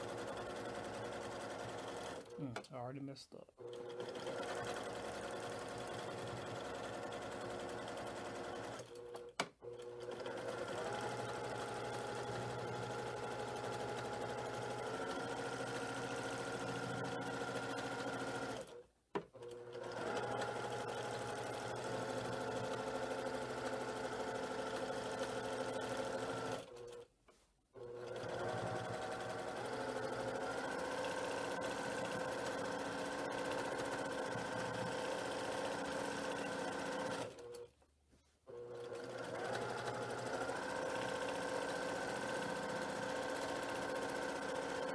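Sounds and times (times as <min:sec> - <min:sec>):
sewing machine stitching: 0:00.0 - 0:02.6, 0:03.6 - 0:27.1, 0:27.8 - 0:37.8, 0:38.5 - 0:44.9.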